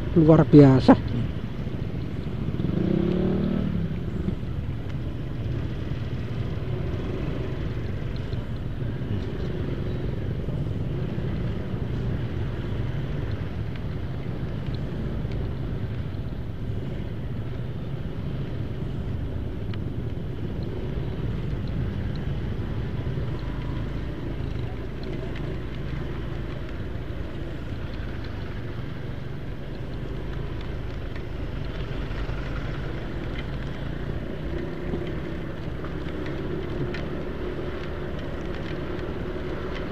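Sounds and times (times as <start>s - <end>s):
stop-and-go traffic: 0.0s - 39.9s
scooter engine rumble: 1.1s - 39.9s.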